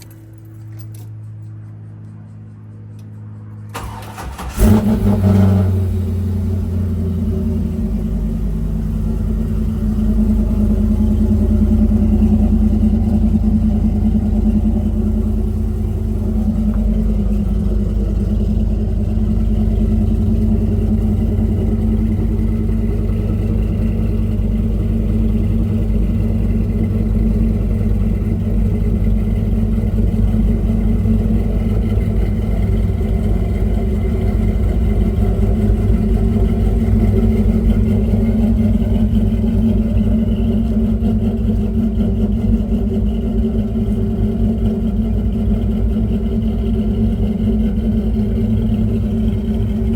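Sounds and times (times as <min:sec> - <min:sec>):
car engine idling: 0:02.9 - 0:49.9.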